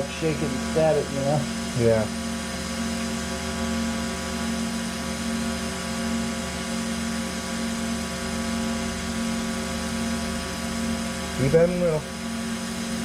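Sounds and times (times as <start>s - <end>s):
welding arc buzzing: 0.0s - 13.0s.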